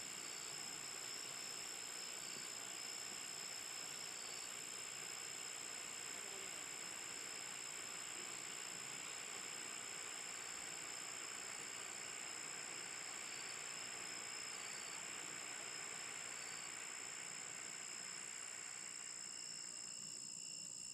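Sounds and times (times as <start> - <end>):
night insects trilling: 0.0 - 20.9.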